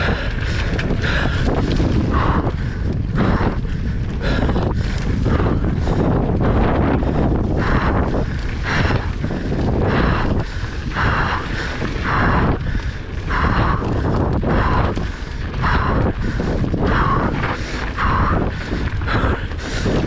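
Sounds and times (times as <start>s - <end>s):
low rumble: 0.0s - 20.0s
person breathing hard: 0.0s - 20.0s
wind noise on microphone: 0.0s - 20.0s.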